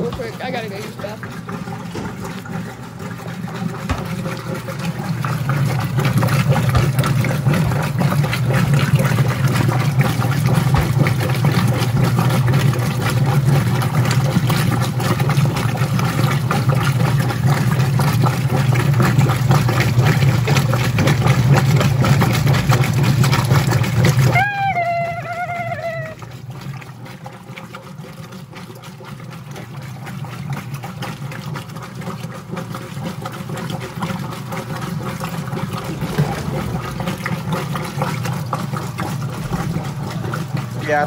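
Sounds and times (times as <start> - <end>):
washing machine motor hum: 0.0 - 41.0
water churning and sloshing: 0.0 - 41.0.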